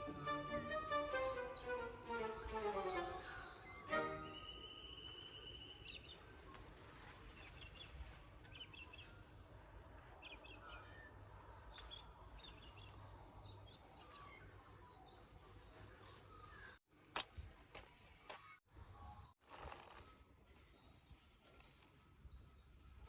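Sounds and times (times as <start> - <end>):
faint birds chirping: 0.0 - 16.8, 20.0 - 23.0.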